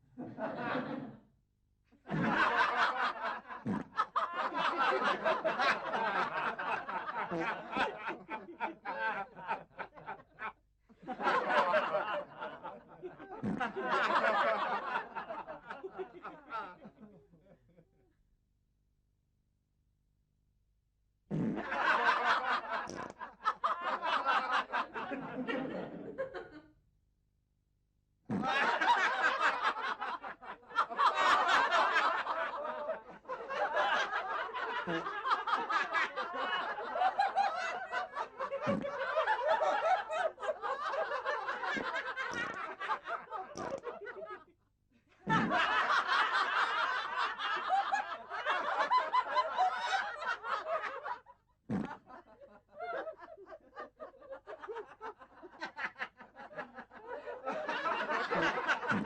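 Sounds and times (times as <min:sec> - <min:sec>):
laughter: 0:00.0 - 0:01.4, 0:02.0 - 0:18.2, 0:21.3 - 0:26.8, 0:28.3 - 0:59.0.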